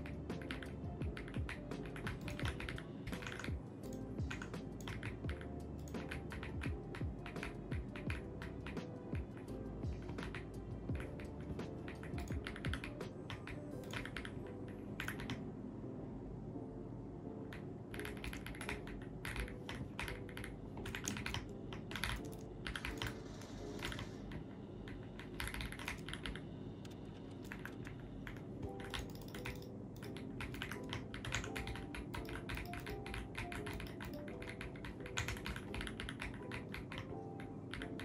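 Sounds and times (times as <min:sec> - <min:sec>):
mechanical keyboard typing: 0:00.0 - 0:15.4, 0:17.5 - 0:23.2, 0:23.8 - 0:38.0.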